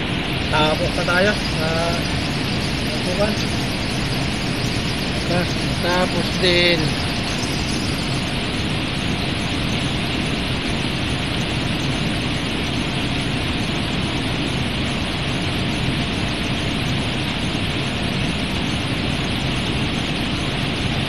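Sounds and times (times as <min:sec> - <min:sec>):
cooling tower drone: 0:00.0 - 0:21.0.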